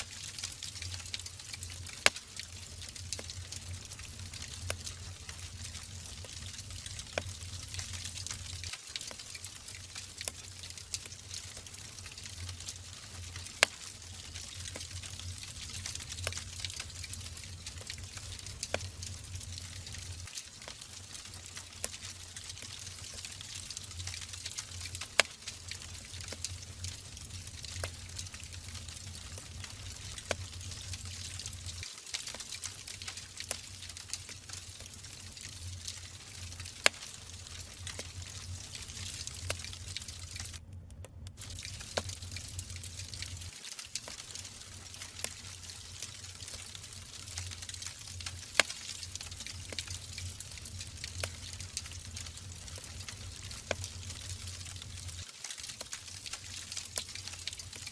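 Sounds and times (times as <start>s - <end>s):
logs crackling and popping: 0.0s - 57.9s.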